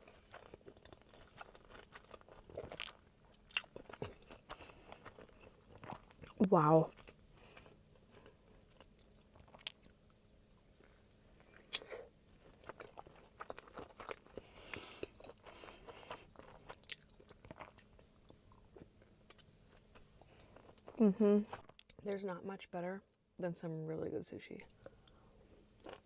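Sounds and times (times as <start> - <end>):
close chewing with crunches: 0.0 - 22.1, 24.7 - 26.0.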